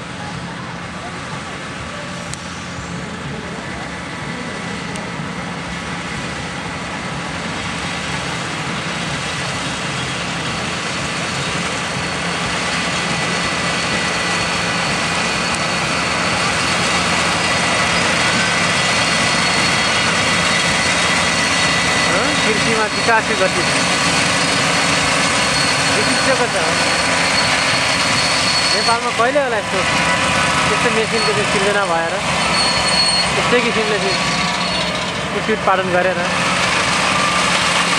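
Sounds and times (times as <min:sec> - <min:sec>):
combine harvester engine drone: 0:00.0 - 0:37.9.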